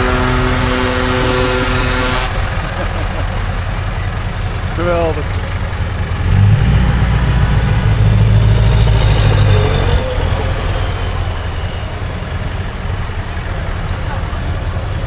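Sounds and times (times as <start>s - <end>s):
diesel truck engines rumbling: 0.0s - 15.0s.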